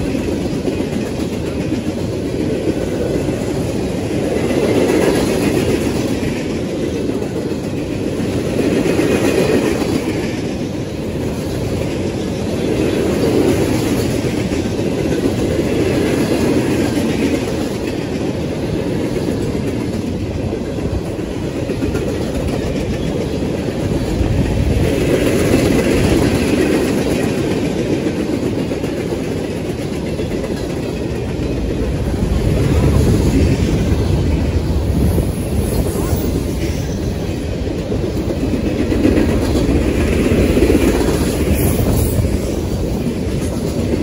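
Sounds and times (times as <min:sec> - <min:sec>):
freight train wheels rumbling on rails: 0:00.0 - 0:44.0.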